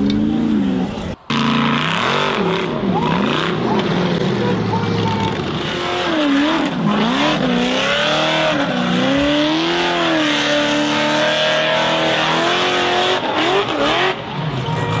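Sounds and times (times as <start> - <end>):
buggy engine revving hard: 0.0 - 15.0.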